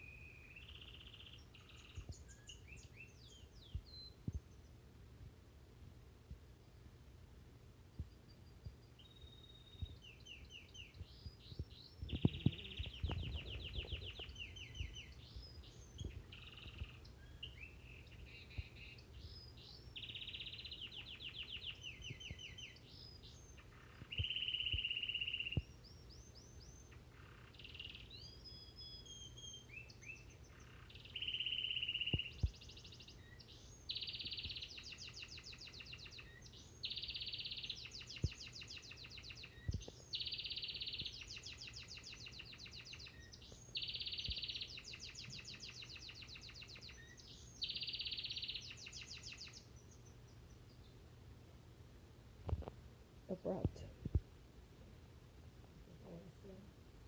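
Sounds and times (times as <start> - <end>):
canary singing trills and chirps: 0.0 - 4.7, 8.0 - 51.0.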